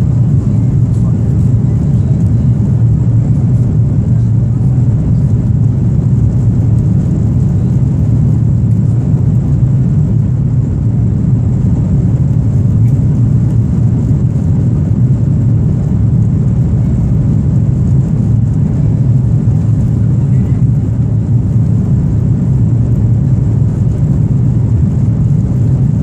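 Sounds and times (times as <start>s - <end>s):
airplane cabin drone: 0.0s - 26.0s.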